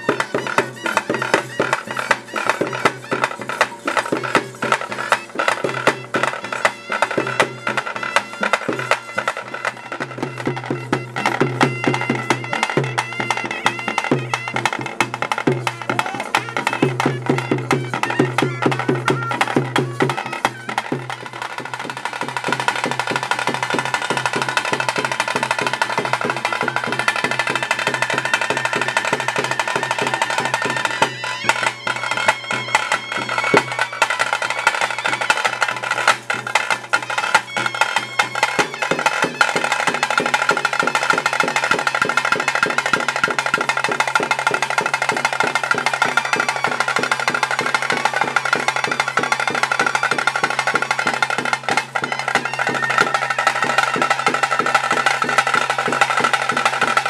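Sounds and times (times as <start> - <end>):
drums beaten in fast rhythm: 0.0 - 57.0
reed pipe playing held notes: 0.0 - 57.0.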